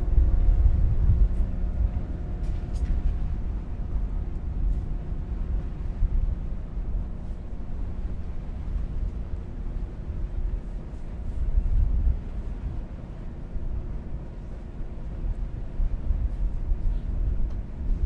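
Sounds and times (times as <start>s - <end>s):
faint hum: 0.0s - 18.0s
ferry engines rumbling: 0.0s - 18.0s.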